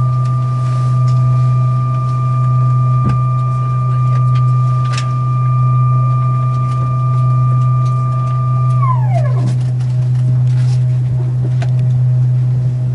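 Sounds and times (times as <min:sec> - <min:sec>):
hydraulic pump hum and whine: 0:00.0 - 0:12.9.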